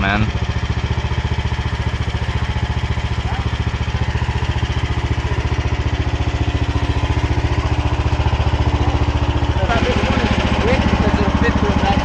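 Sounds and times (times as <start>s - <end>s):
small engine idling chugging: 0.0s - 12.0s.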